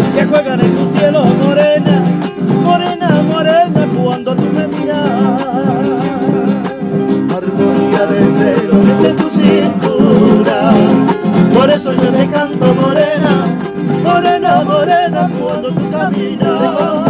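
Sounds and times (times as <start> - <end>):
strummed acoustic guitars: 0.0 - 17.0.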